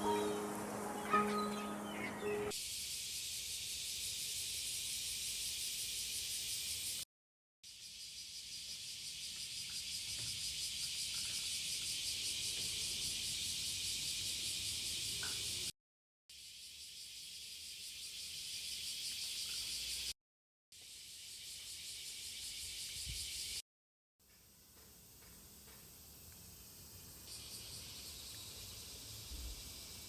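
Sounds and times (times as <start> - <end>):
pulsing insect chorus: 0.0 - 7.0, 7.7 - 15.7, 16.4 - 20.1, 20.9 - 23.6, 25.7 - 30.0.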